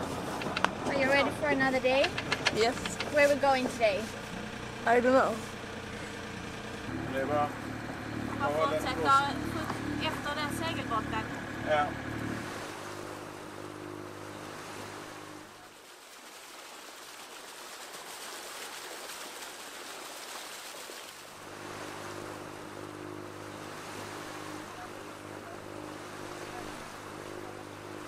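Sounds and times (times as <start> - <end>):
boat engine humming: 0.0 - 28.0
water rushing off boat bow: 0.0 - 28.0.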